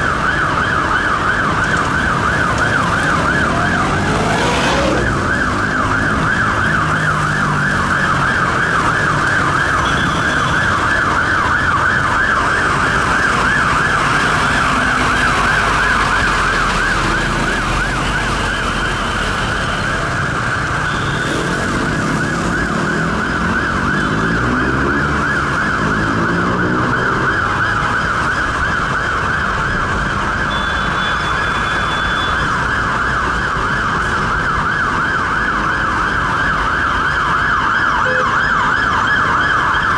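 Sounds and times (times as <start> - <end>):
deep siren gliding down: 0.0 - 30.6, 31.9 - 39.9
traffic noise: 0.0 - 39.9
warbling emergency sirens: 0.0 - 39.9.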